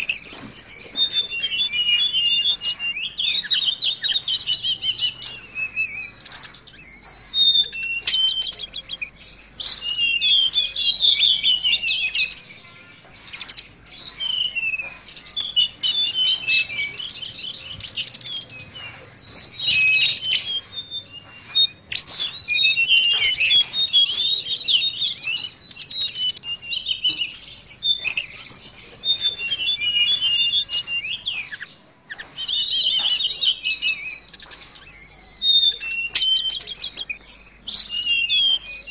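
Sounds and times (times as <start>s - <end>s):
songbird warbling song: 0.0s - 38.9s.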